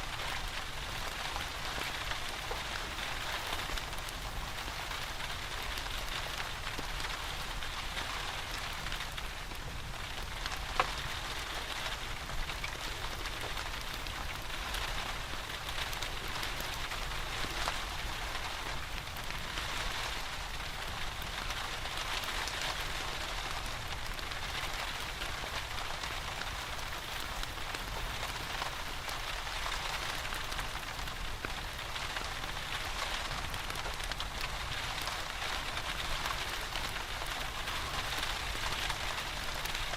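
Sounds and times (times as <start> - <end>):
steady rain falling: 0.0 - 39.9
wood fire crackle: 0.0 - 39.9.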